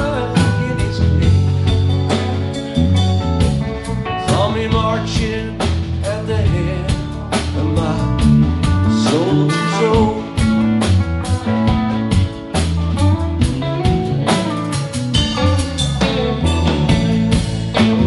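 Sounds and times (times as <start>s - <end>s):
bass guitar: 0.0s - 18.0s
drum kit beat: 0.0s - 18.0s
electric guitars: 0.0s - 18.0s.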